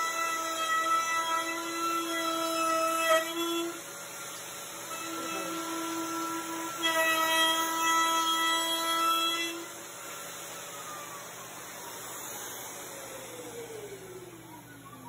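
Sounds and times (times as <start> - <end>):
power tool motor whining down: 0.0 - 15.0.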